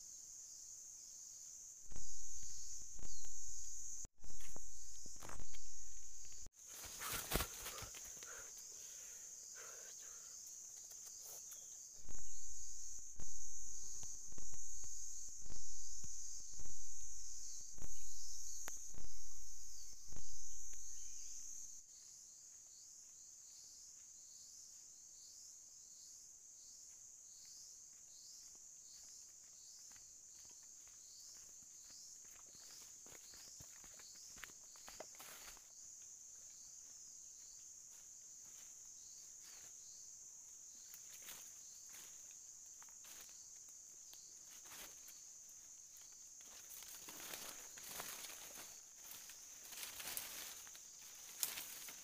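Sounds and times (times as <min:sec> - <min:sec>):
insects buzzing: 0:00.0 - 0:52.0.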